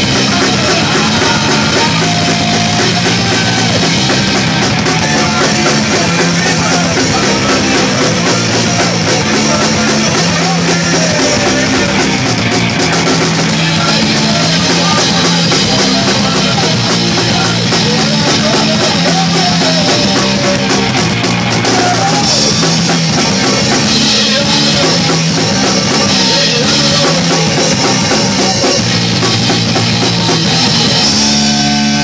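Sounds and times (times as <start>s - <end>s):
drum kit: 0.0s - 32.0s
rock band playing live: 0.0s - 32.0s.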